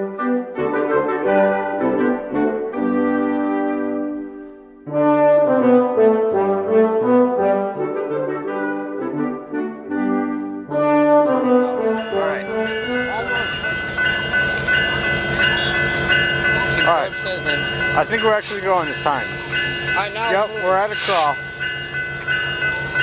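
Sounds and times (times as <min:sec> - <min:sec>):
brass instrumental music: 0:00.0 - 0:21.8.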